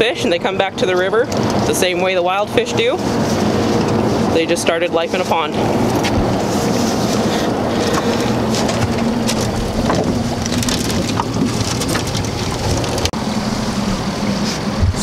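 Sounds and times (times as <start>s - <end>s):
boat motor idling: 0.0s - 15.0s
wind and water noise: 0.0s - 15.0s.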